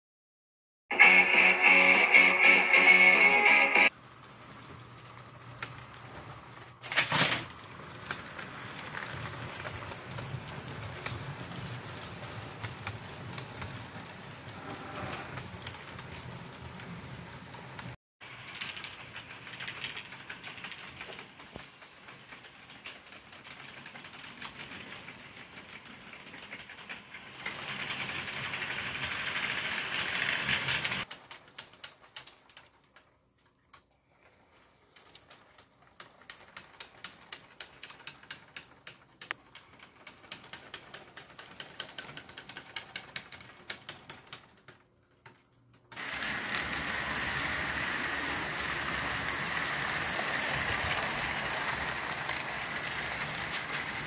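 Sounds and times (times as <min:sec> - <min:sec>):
model locomotive whirring: 0:03.9 - 0:54.0
model train wheels clicking: 0:03.9 - 0:54.0.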